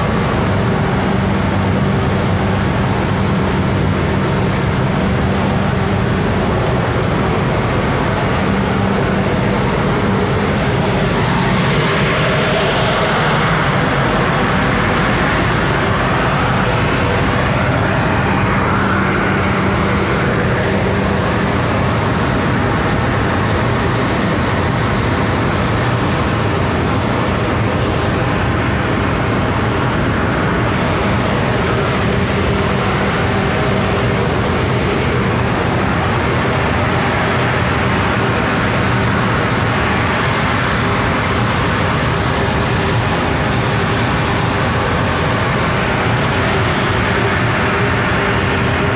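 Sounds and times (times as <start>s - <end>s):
low hum: 0.0s - 48.9s
machinery running: 0.0s - 48.9s.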